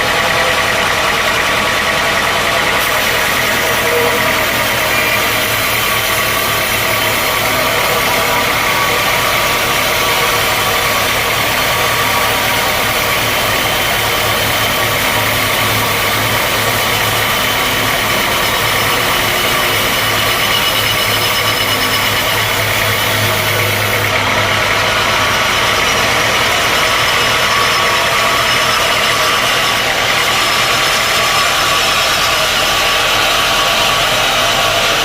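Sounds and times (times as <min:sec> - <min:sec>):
sawmill machinery drone: 0:00.0 - 0:35.0.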